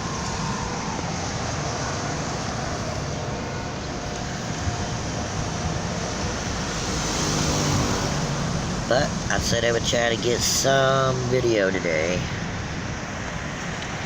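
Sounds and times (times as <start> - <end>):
car running: 0.0 - 14.0.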